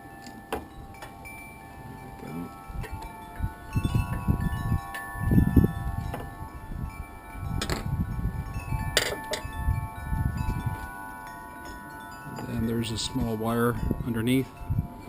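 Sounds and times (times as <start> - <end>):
wind chime ringing: 0.0 - 15.0.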